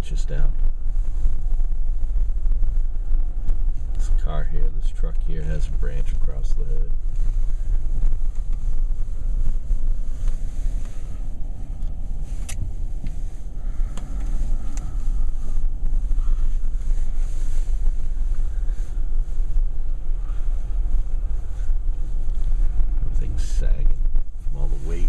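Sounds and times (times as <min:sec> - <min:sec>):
vehicle driving rumble: 0:00.0 - 0:25.0.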